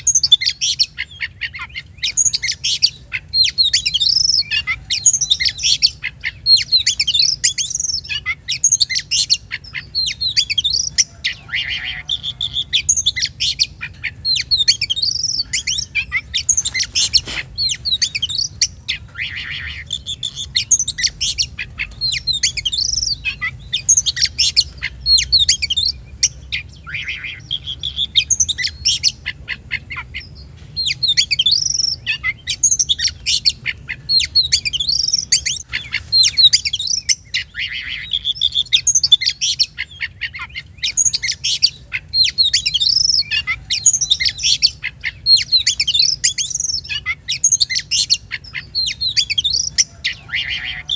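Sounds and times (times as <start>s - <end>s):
bird singing whistles and chirps: 0.0s - 50.9s.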